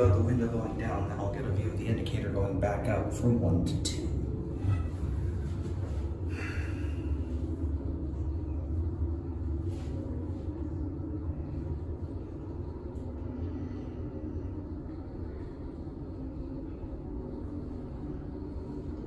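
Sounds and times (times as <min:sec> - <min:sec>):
elevator low rumble: 0:00.0 - 0:19.0.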